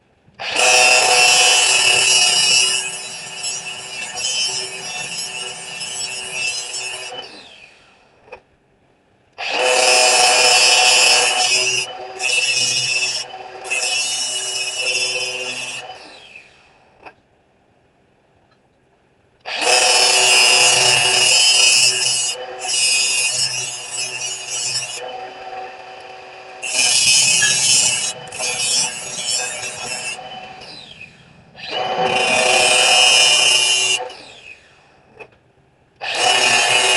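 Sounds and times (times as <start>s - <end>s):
power grinder grinding steel: 0.4s - 7.8s, 9.4s - 16.3s, 19.5s - 34.7s, 36.0s - 36.9s.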